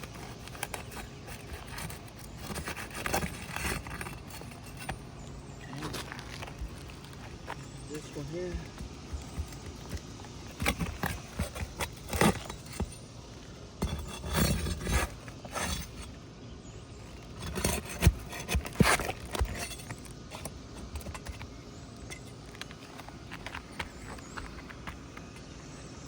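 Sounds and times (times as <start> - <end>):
pry tool scraping shingles: 0.0 - 25.6.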